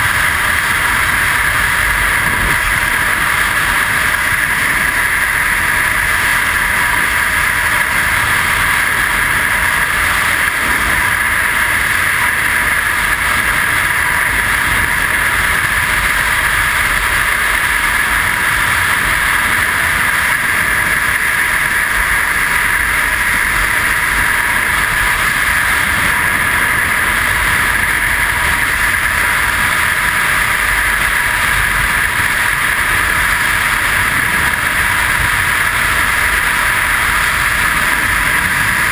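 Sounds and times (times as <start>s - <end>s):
freefall wind rushing: 0.0s - 38.9s.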